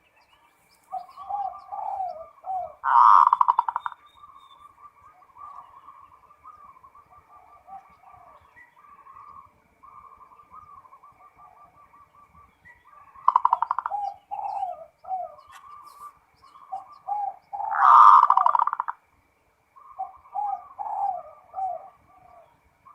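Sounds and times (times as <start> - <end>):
dove cooing: 0.9 - 19.0, 19.8 - 22.9.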